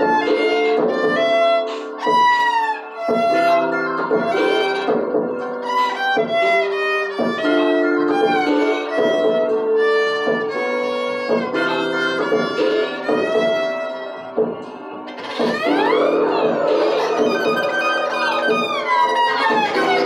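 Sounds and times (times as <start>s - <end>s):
bowed violin slow melody: 0.0s - 20.0s.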